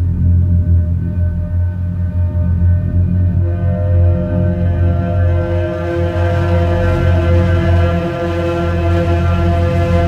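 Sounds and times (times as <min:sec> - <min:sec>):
deep bass drone: 0:00.0 - 0:10.0.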